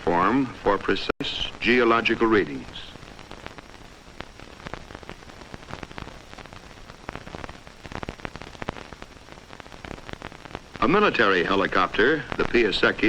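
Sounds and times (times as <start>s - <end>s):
crackles and pops: 0.0s - 13.0s
film soundtrack hiss: 0.0s - 13.0s.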